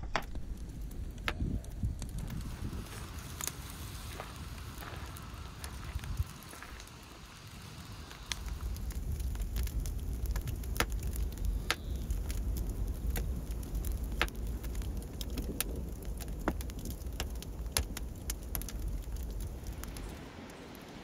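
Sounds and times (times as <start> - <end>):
fire crackling and popping: 0.0 - 21.0
rush of flames: 0.3 - 21.0.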